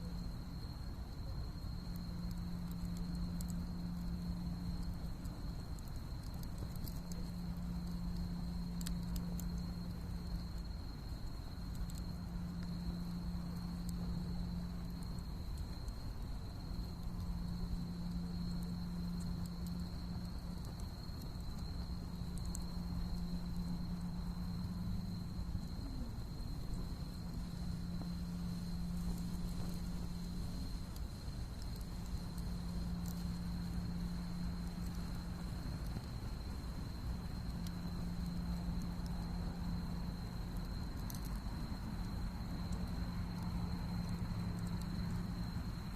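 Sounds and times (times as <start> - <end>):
faint crackles: 0.0 - 45.9
low hum: 0.0 - 45.9.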